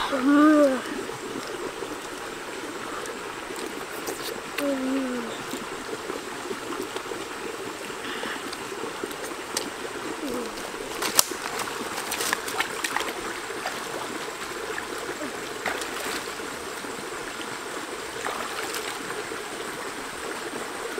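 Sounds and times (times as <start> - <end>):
stream running over rocks: 0.0 - 20.9.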